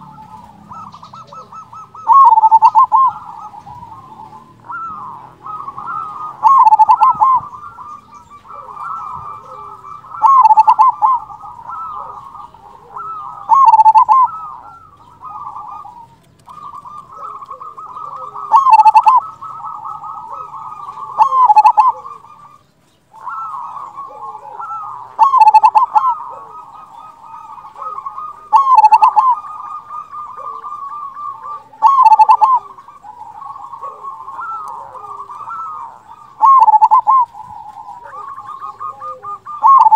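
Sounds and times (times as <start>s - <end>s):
deep dove coo: 0.0s - 39.9s
dove trilled cooing: 0.0s - 39.9s.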